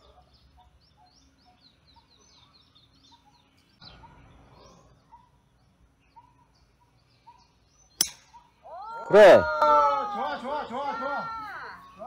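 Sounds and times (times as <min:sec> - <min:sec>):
birds chirping and whistling: 0:00.0 - 0:12.0
outdoor background noise: 0:00.0 - 0:12.0.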